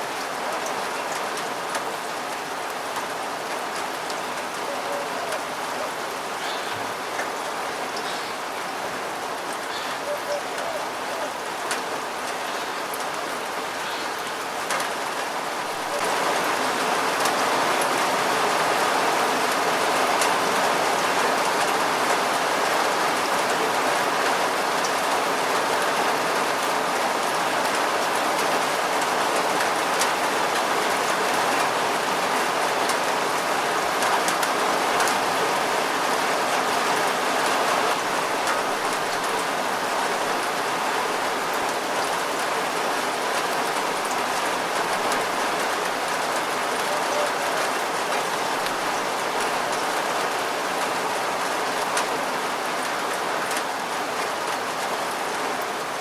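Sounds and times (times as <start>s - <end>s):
rain drops ticking: 0.0s - 56.0s
steady rain hissing: 0.0s - 56.0s.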